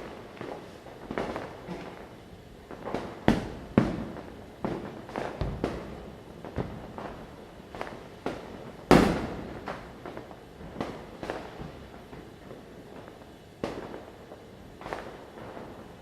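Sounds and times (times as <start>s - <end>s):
firecrackers bursting: 0.0s - 16.0s.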